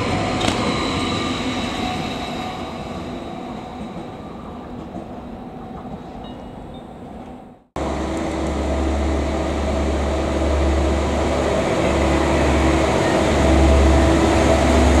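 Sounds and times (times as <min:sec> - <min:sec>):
train drone arriving: 0:00.0 - 0:15.0.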